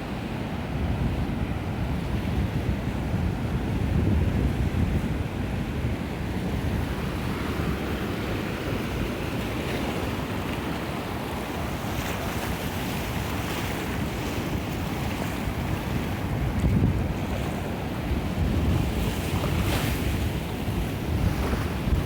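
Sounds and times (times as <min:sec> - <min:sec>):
sea surf breaking on shore: 0:00.0 - 0:22.0
wind buffeting microphone: 0:00.7 - 0:22.0.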